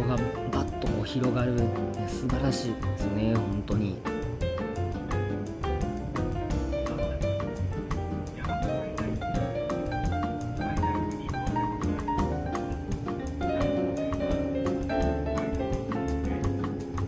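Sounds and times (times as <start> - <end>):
jazz piano with steady beat: 0.0 - 17.0.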